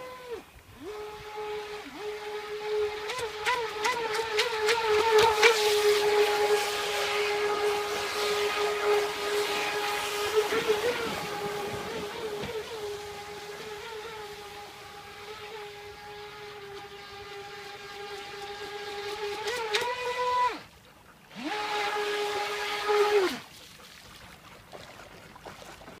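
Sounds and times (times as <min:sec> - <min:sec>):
electric motor whining: 0:00.0 - 0:20.7, 0:21.3 - 0:23.4.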